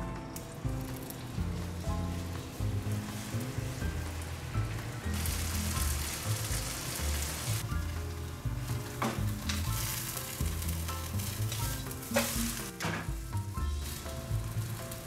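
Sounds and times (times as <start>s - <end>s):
food sizzling in a frying pan: 0.6s - 15.0s.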